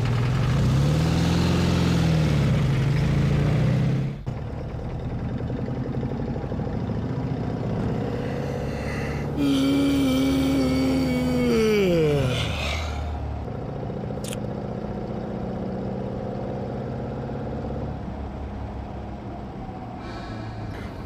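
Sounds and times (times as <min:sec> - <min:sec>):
low engine-like hum: 0:02.4 - 0:21.0.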